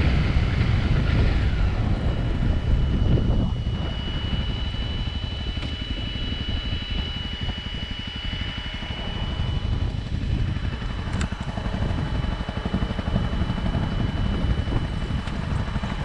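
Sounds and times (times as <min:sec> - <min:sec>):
motorcycle engine pulsing: 0:00.0 - 0:16.0
wind noise on microphone: 0:00.0 - 0:16.0.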